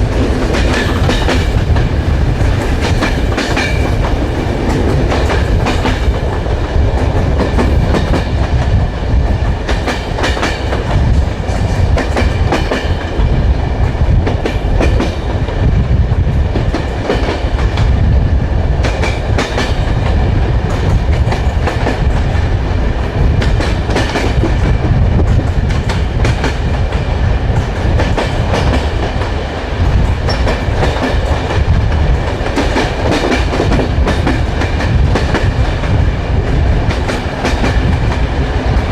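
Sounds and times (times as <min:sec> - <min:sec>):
train wheels clickety-clack: 0:00.0 - 0:38.9.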